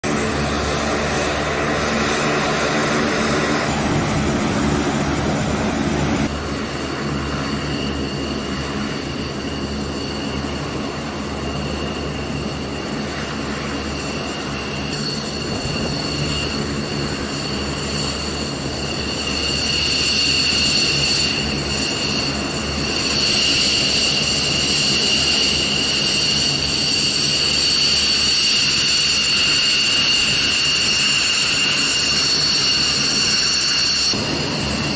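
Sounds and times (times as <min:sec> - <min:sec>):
jet engine whine: 0:00.0 - 0:34.9
turboprop engines droning: 0:00.0 - 0:34.9.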